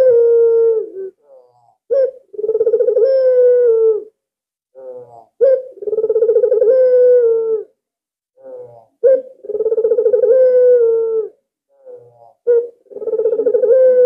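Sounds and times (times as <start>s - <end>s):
dove cooing: 0.0s - 4.2s, 4.8s - 7.8s, 8.4s - 14.0s.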